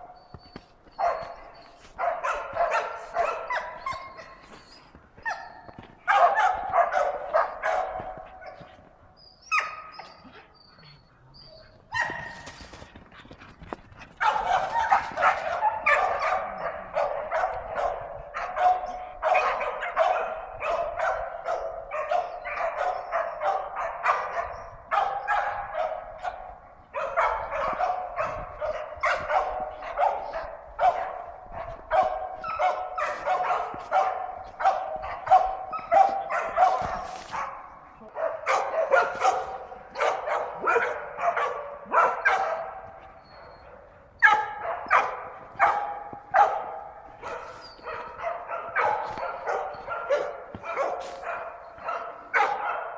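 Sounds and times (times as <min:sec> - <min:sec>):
dog yelping: 0:00.0 - 0:12.8, 0:14.2 - 0:52.9
dog barking: 0:00.0 - 0:12.9, 0:14.1 - 0:52.9.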